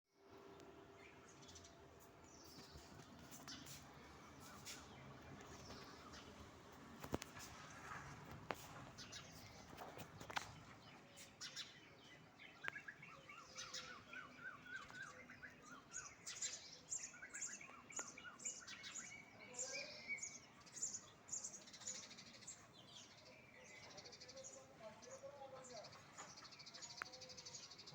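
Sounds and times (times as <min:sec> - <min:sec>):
small birds chirping: 0:00.2 - 0:27.9.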